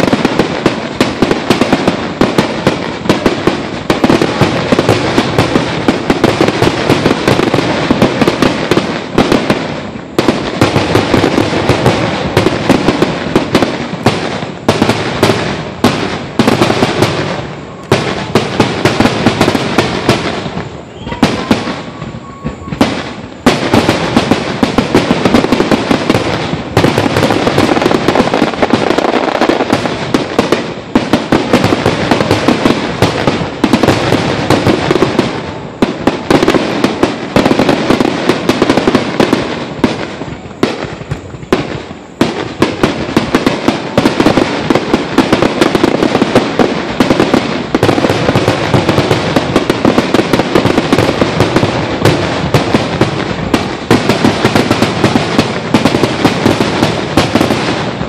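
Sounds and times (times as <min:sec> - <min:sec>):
fireworks barrage: 0:00.0 - 0:58.0.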